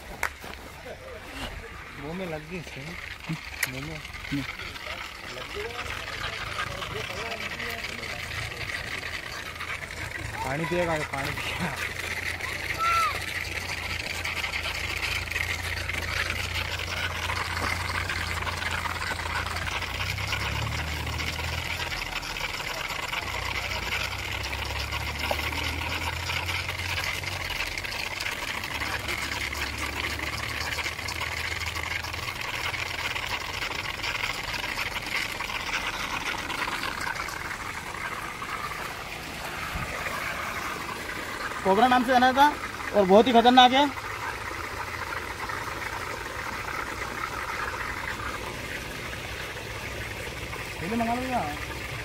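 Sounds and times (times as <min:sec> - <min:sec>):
hiss of running water: 0:00.0 - 0:52.0
low mechanical hum: 0:00.0 - 0:52.0.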